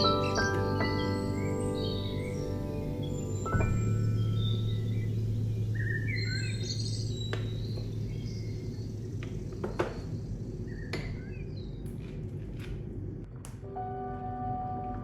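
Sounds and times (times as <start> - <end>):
birds chirping: 0.0 - 12.1
low steady hum: 0.0 - 15.0.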